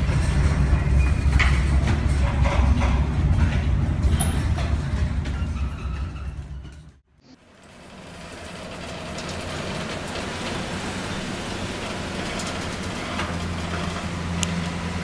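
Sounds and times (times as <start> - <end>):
ship low hum: 0.0 - 7.1, 7.7 - 15.0.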